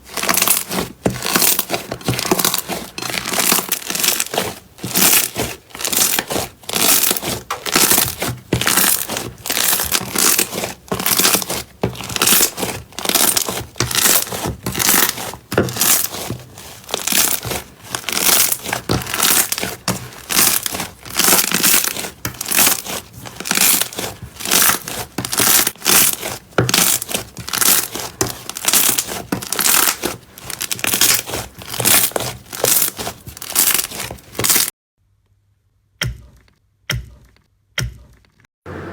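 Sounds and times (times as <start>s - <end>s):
slime squishing: 0.0s - 34.7s.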